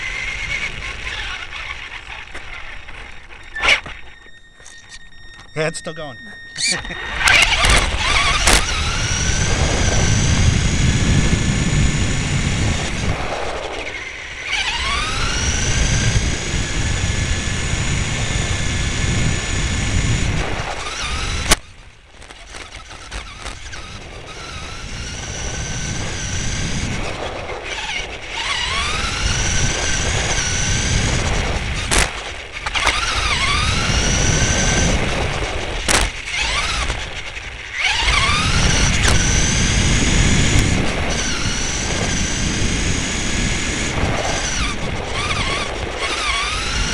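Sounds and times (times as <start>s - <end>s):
electric motor whine: 0.0s - 46.9s.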